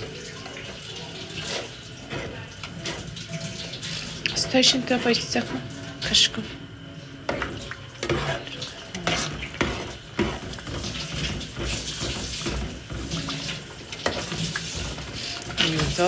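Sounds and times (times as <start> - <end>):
metal spoon scraping a pot: 1.3 - 6.2, 7.2 - 16.0.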